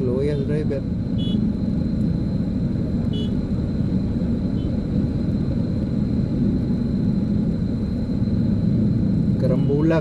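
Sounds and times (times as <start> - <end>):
vehicle engines running: 0.0 - 10.0.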